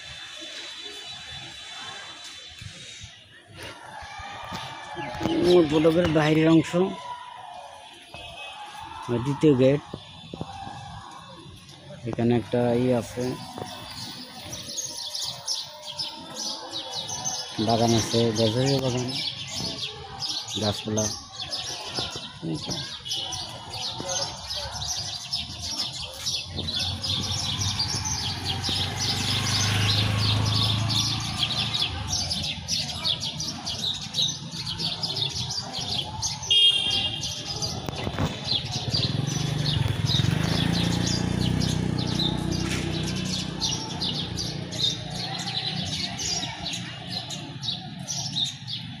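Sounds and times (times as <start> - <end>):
street traffic rumble: 0.0 - 49.0
small birds chirping: 9.0 - 49.0.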